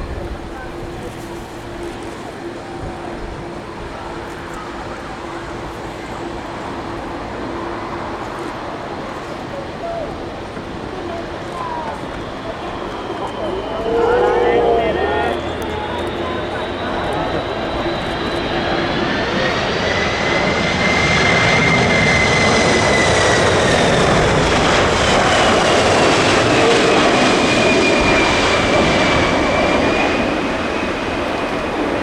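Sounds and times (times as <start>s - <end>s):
jet airliner passing low: 0.0s - 32.0s.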